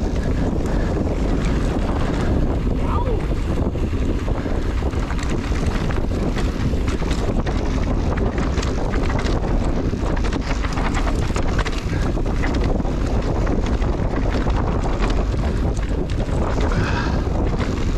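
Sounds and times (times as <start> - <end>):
bike clicking and rattling: 0.0 - 17.9
wind buffeting microphone: 0.0 - 17.9.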